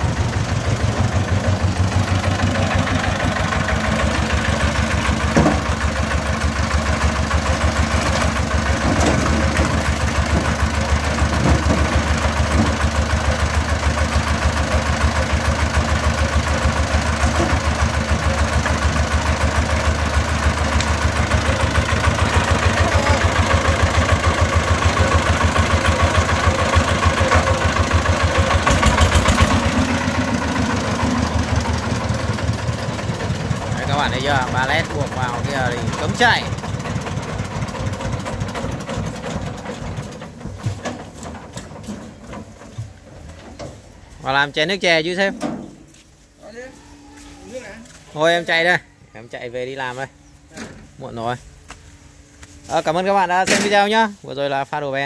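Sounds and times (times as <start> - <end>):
diesel engine chugging: 0.0 - 47.0.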